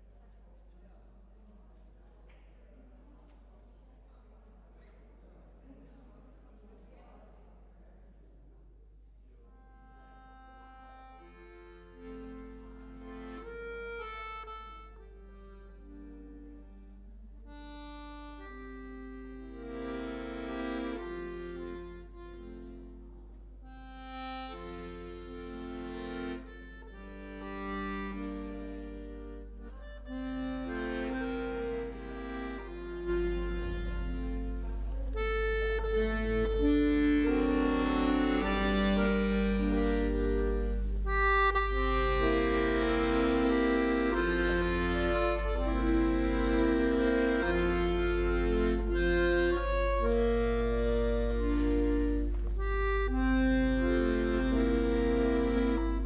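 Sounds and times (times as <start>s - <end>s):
slow reedy instrumental chords: 9.8s - 56.0s.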